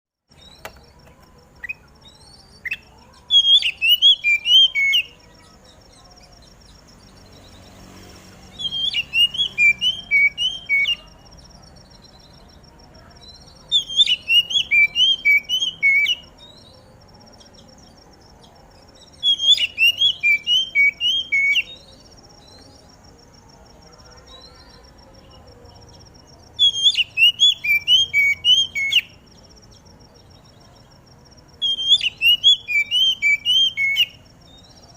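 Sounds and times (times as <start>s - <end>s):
bird singing whistled notes: 0.3s - 7.8s, 8.5s - 22.9s, 24.3s - 34.9s.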